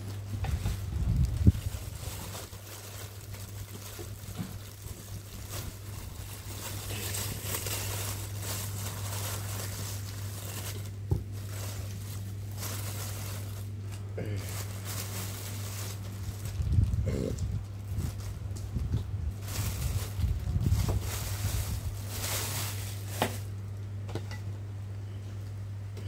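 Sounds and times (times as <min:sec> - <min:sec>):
plastic bag rustling: 0:00.0 - 0:23.8
steady low hum: 0:00.0 - 0:26.0.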